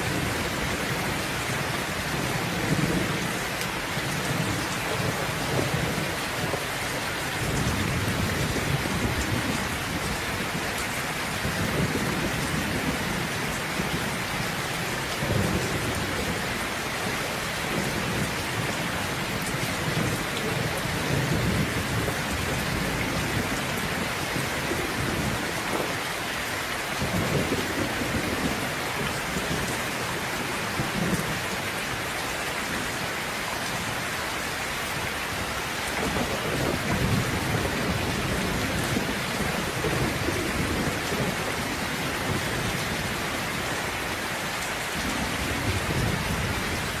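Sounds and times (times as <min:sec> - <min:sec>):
heavy rain: 0:00.0 - 0:47.0.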